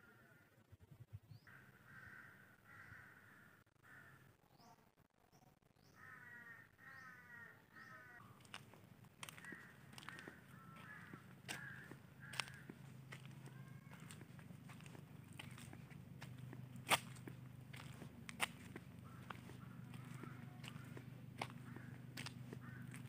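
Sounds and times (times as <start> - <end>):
faint bird calls: 1.2 - 4.8, 5.8 - 23.0.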